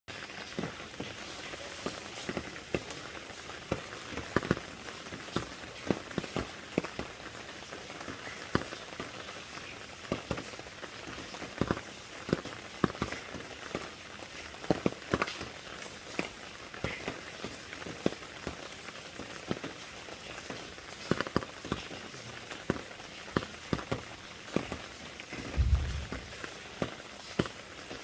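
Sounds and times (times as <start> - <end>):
rain falling: 0.1 - 28.0.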